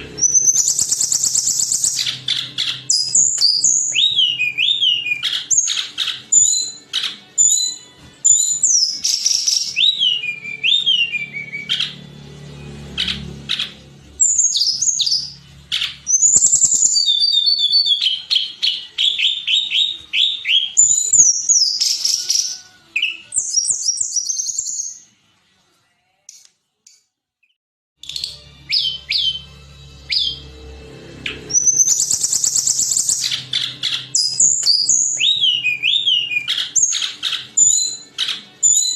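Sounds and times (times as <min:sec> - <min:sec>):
songbird whistling and trilling: 0:00.2 - 0:12.0, 0:13.0 - 0:25.0, 0:28.0 - 0:30.5, 0:31.3 - 0:38.9.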